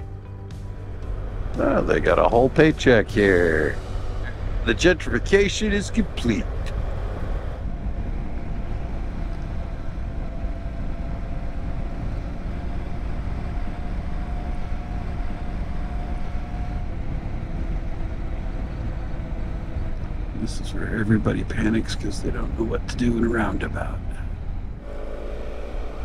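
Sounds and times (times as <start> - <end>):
motorcycle engine and wind rumble: 0.0 - 26.0
faint steady whine: 0.6 - 26.0.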